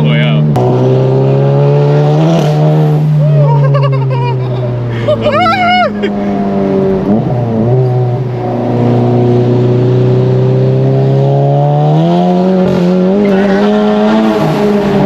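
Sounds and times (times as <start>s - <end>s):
turbocharged car engine accelerating: 0.0s - 15.0s.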